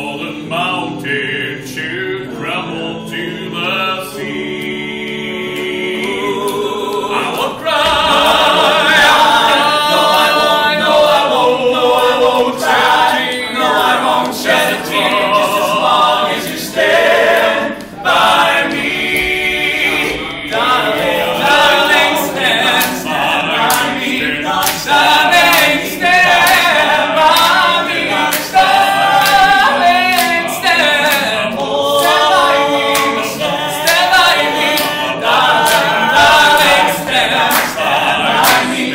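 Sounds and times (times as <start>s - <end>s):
a cappella group singing: 0.0s - 38.9s.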